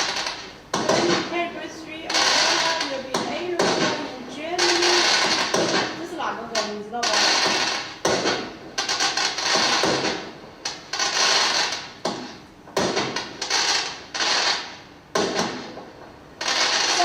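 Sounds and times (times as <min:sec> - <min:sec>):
firework bangs with hiss: 0:00.0 - 0:17.0.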